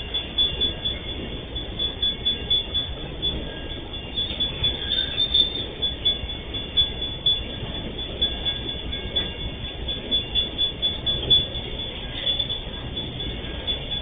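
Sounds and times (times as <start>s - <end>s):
freight wagons rumbling over rails: 0.0s - 14.0s.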